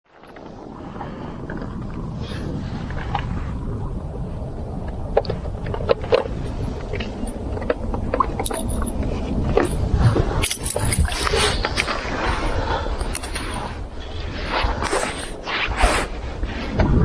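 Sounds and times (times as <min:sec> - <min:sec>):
low rumble: 0:00.3 - 0:15.5, 0:16.1 - 0:17.0.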